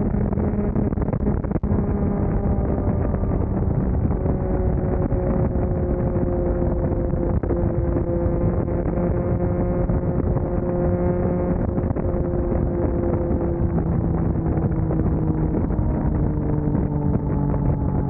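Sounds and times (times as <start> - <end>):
motorcycle engine at speed: 0.0 - 18.0
wind rush on microphone: 0.0 - 18.0.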